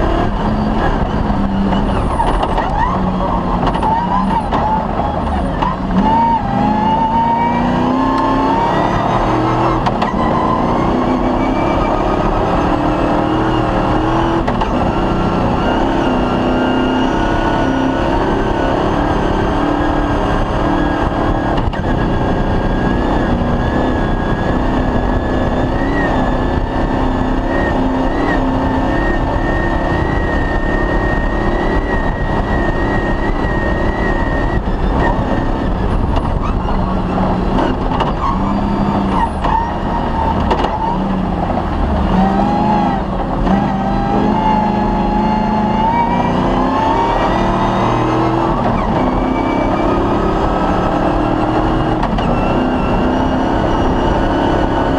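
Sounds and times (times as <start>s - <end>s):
rally car engine running hard: 0.0s - 54.9s.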